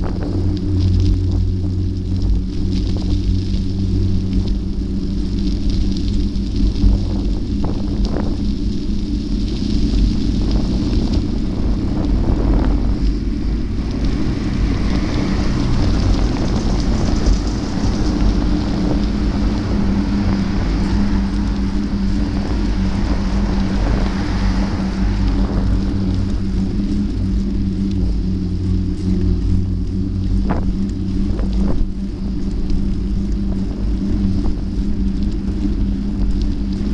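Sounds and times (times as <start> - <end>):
vehicle rumble and hum: 0.0 - 36.9.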